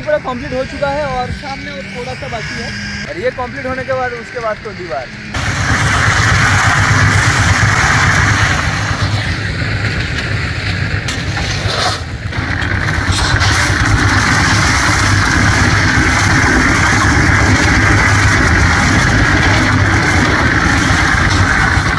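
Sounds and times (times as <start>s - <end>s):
concrete mixer engine droning: 0.0s - 21.9s
gravel churning in drum: 3.0s - 21.9s.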